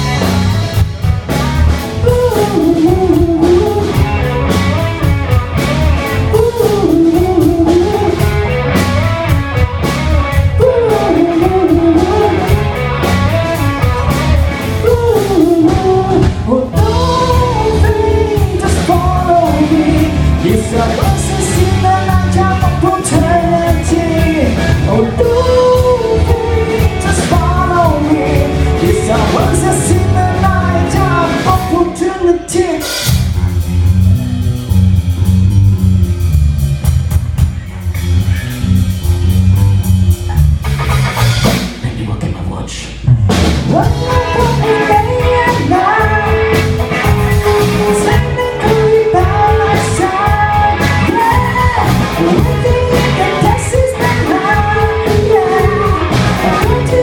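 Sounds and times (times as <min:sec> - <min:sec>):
live rock band playing: 0:00.0 - 0:42.0, 0:42.9 - 0:57.0
person singing: 0:01.7 - 0:33.3, 0:41.7 - 0:57.0.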